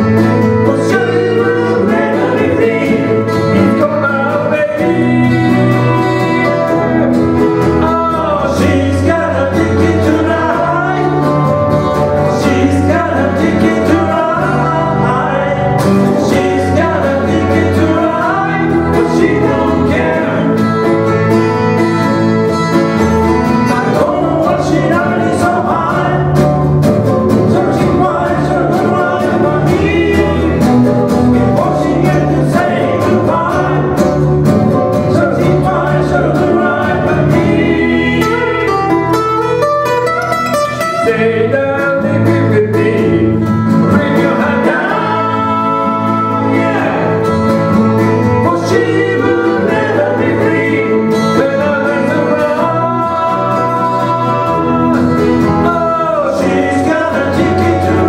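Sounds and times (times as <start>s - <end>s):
man singing: 0.0s - 39.6s, 40.7s - 58.0s
strummed acoustic guitars: 0.0s - 58.0s.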